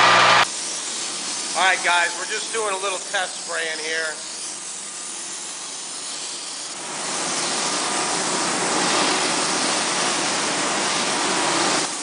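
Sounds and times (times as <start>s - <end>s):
spray foam gun hissing: 0.4s - 12.0s.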